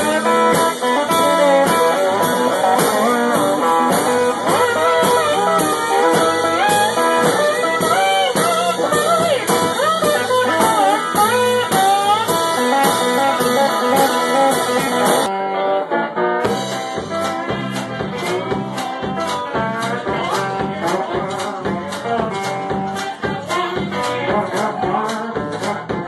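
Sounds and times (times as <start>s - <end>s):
steady drum beat: 0.0s - 15.3s, 16.5s - 26.0s
bass guitar: 0.0s - 26.0s
blues guitar lead: 0.0s - 26.0s.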